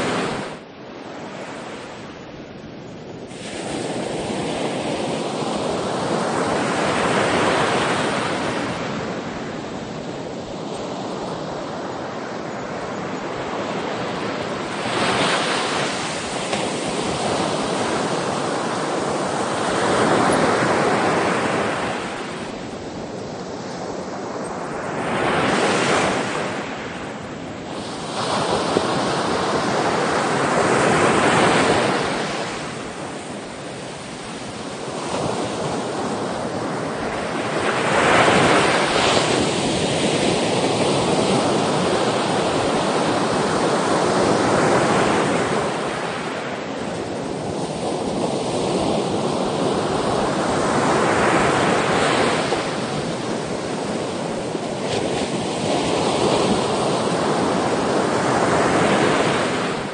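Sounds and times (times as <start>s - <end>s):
sea waves breaking: 0.0s - 2.3s, 3.2s - 59.9s.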